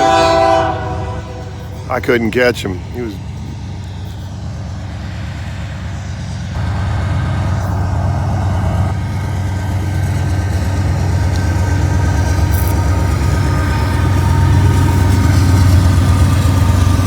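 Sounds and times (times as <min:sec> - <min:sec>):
diesel locomotive humming: 0:00.0 - 0:17.0.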